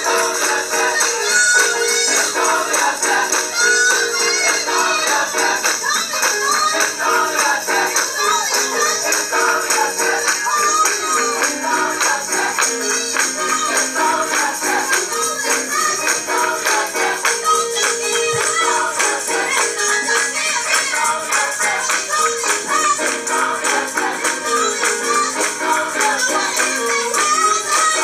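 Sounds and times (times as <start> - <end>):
choir singing gospel: 0.0 - 28.0
percussion beat: 0.0 - 28.0.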